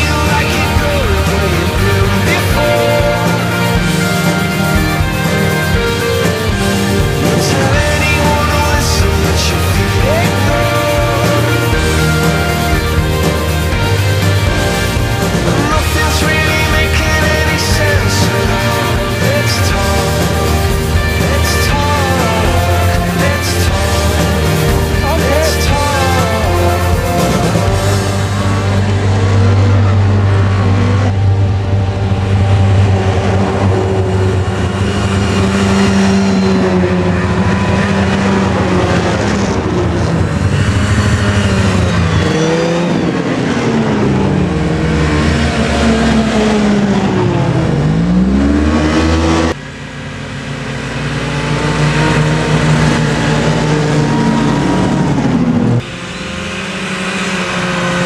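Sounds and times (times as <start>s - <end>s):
snowmobile engines revving: 0.0s - 58.0s.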